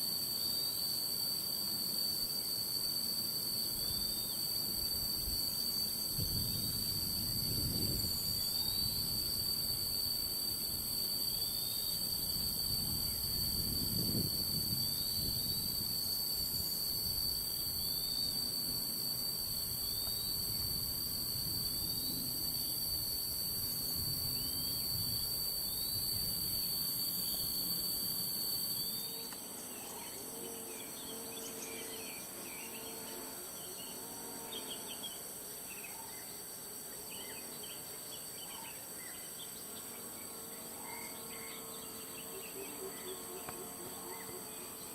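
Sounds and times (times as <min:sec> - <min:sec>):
shrill insect chorus: 0:00.0 - 0:44.9.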